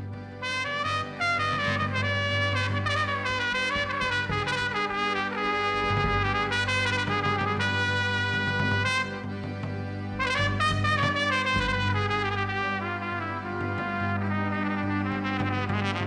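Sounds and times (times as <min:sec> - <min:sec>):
film score with trumpet: 0:00.0 - 0:16.0
steady bass: 0:01.0 - 0:16.0.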